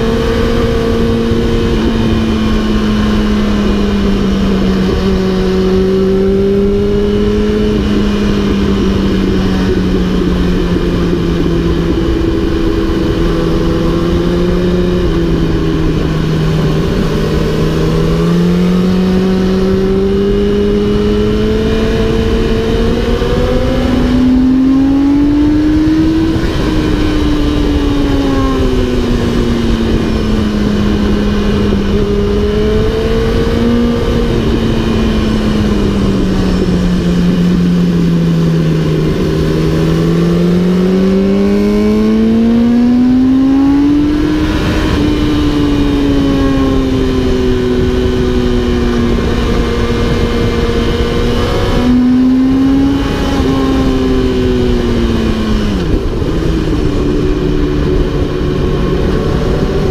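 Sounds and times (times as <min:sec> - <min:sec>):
motorcycle engine: 0:00.0 - 0:59.9
wind noise on microphone: 0:00.0 - 0:59.9.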